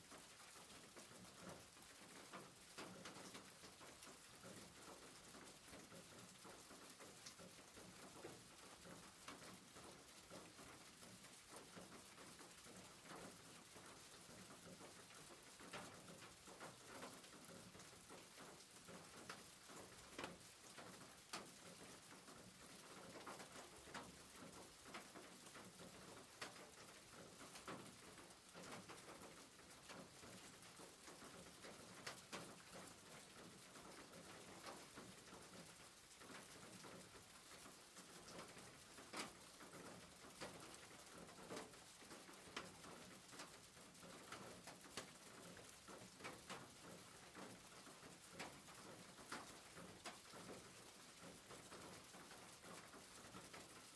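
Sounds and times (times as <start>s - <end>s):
faint rain hiss: 0.0s - 53.9s
raindrops ticking and splashing: 0.0s - 53.9s.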